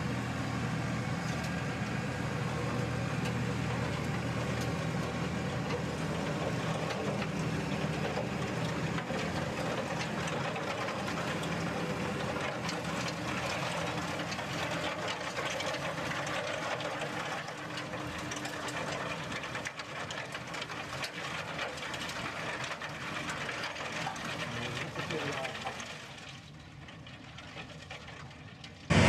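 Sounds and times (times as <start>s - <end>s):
tractor mechanical drone: 0.0s - 29.0s.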